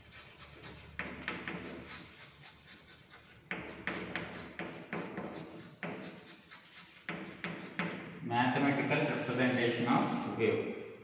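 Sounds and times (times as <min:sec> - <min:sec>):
chalk tapping and scraping on blackboard: 0:00.0 - 0:08.2, 0:08.8 - 0:10.4.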